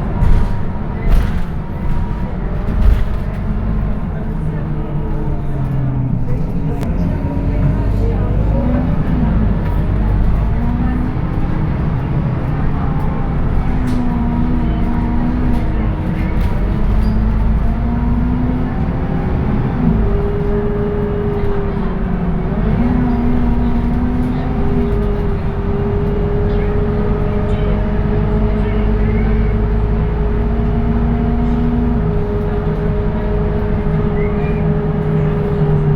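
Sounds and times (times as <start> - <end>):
bus diesel engine drone: 0.0 - 35.9.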